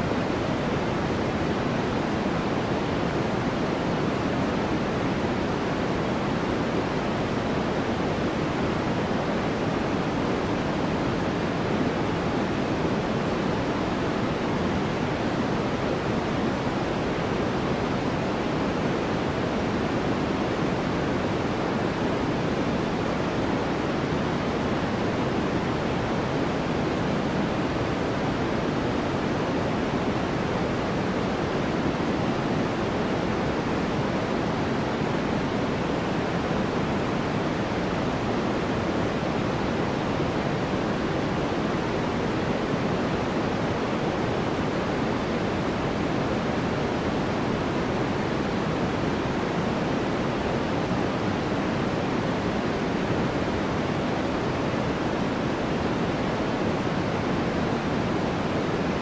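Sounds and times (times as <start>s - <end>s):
continuous rushing hiss: 0.0s - 59.0s.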